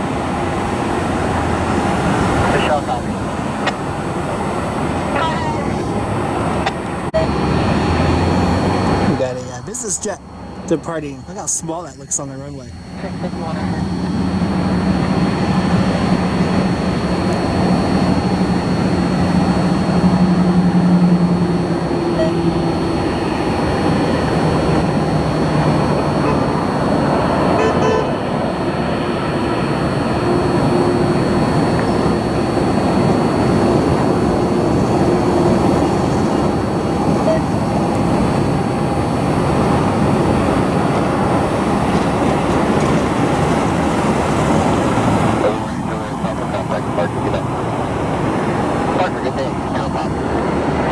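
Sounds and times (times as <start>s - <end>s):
jet engines taking off: 0.0s - 50.9s.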